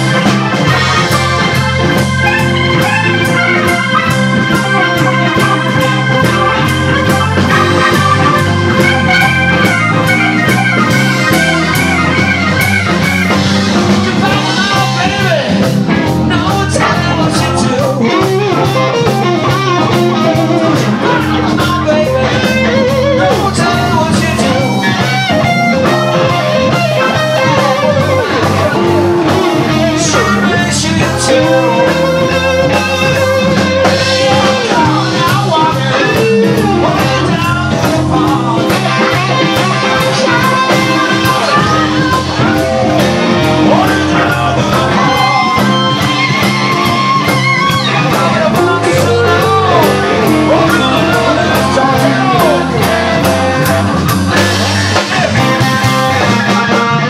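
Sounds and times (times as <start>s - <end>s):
electric guitars bending notes: 0.0s - 57.0s
live blues band playing: 0.0s - 57.0s.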